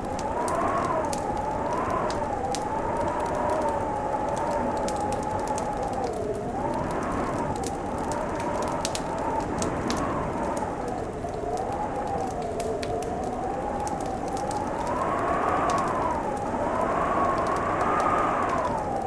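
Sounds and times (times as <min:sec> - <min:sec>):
howling wind: 0:00.0 - 0:19.0
wood fire crackling and popping: 0:00.0 - 0:19.0.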